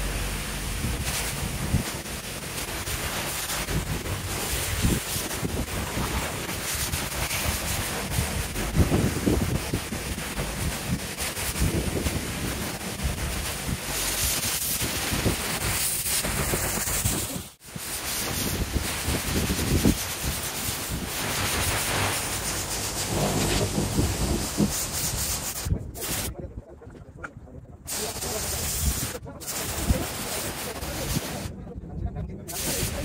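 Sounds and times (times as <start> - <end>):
pressure washer spraying concrete: 0.0 - 26.3, 27.9 - 31.5, 32.5 - 33.0.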